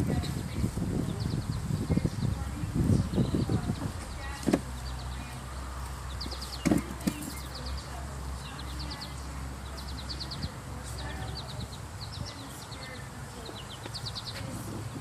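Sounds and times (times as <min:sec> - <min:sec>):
small bird singing trills: 0:00.0 - 0:03.8, 0:04.8 - 0:15.0
steady low rumble: 0:00.0 - 0:15.0.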